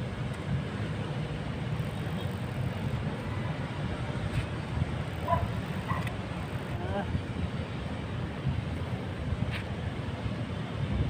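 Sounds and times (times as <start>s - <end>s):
low city rumble: 0.0s - 11.0s.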